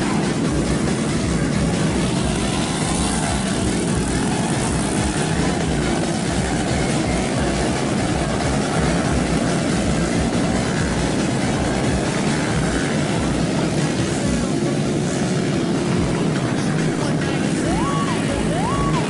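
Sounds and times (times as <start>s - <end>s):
constant low rumble: 0.0s - 19.0s
distant motorcycle engines revving: 0.0s - 19.0s.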